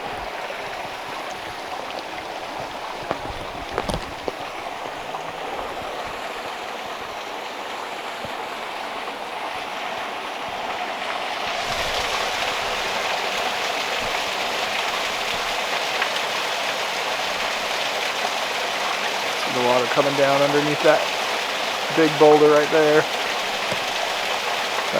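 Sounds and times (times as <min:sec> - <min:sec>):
stream rushing over boulders: 0:00.0 - 0:24.9.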